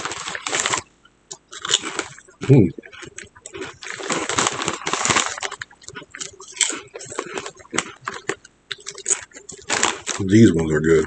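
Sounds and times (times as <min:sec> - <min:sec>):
chip bag crinkling: 0:00.0 - 0:11.0.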